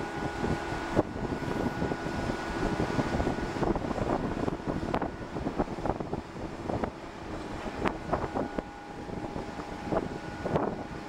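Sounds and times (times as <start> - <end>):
crane machinery running: 0.0 - 11.0
wind buffeting microphone: 0.0 - 11.0.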